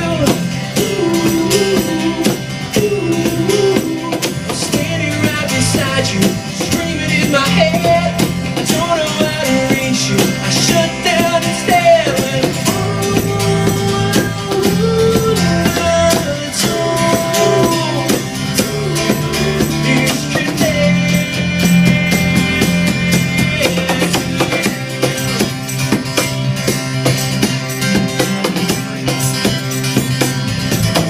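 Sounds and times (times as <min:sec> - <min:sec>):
electric guitar melody: 0:00.0 - 0:31.0
steady drum beat: 0:00.0 - 0:31.0.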